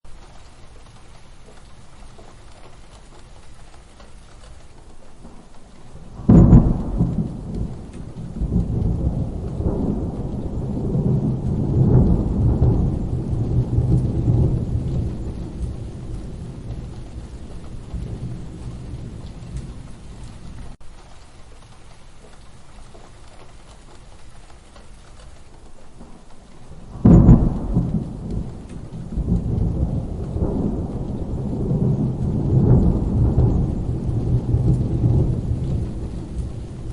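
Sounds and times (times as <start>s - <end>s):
steady rain: 0.0s - 36.9s
thunder cracking and rumbling: 0.2s - 21.7s, 22.3s - 36.9s.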